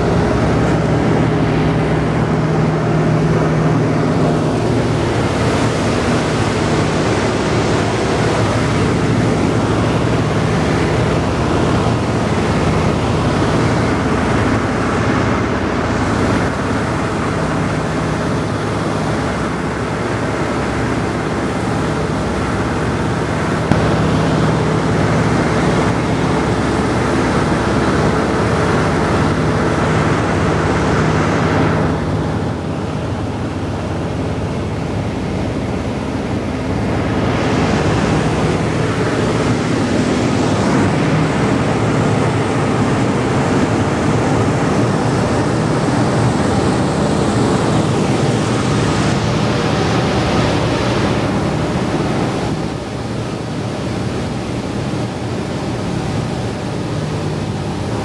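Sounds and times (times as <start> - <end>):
radial aircraft engines running: 0.0 - 58.0
rushing wind noise: 0.0 - 58.0.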